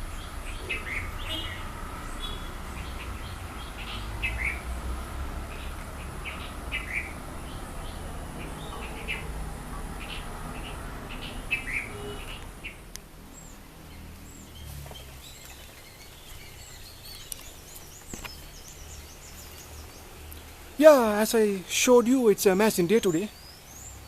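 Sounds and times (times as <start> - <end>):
songbirds chirping and twittering: 0.0 - 24.0.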